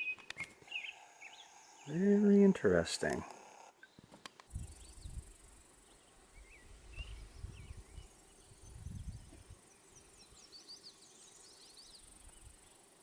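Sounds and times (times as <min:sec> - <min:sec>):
insect hiss: 0:00.0 - 0:13.0
small birds chirping: 0:00.0 - 0:13.0.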